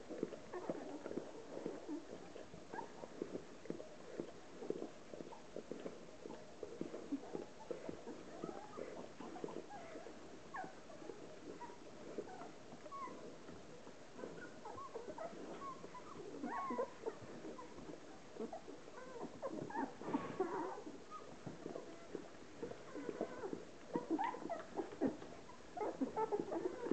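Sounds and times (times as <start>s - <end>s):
puppies squeaking and whimpering: 0.1s - 3.4s, 4.1s - 13.5s, 14.2s - 26.9s.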